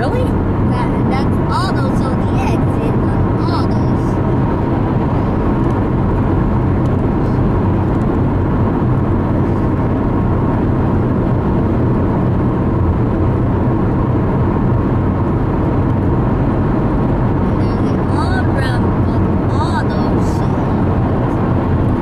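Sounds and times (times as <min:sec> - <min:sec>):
car road noise: 0:00.0 - 0:22.0.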